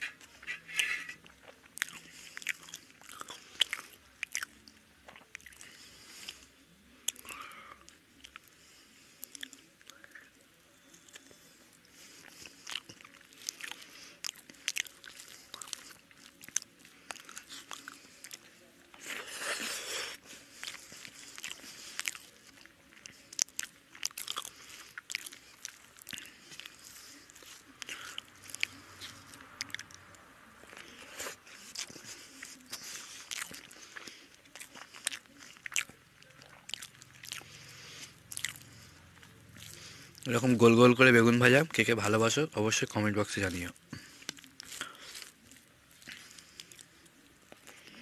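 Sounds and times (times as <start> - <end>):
person chewing food: 0.0 - 40.8, 43.4 - 48.0.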